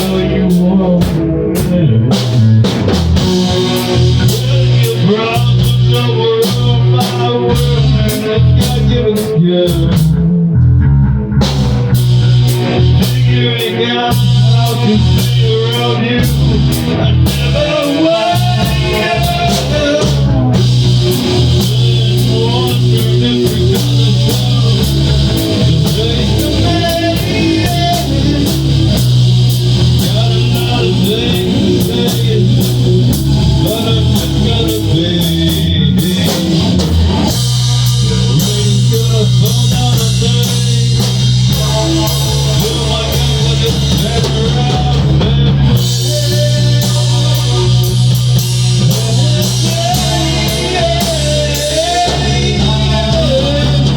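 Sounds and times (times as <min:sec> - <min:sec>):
bass line: 0:00.0 - 0:53.9
drum kit: 0:00.0 - 0:53.9
electric guitar lines: 0:00.0 - 0:53.9.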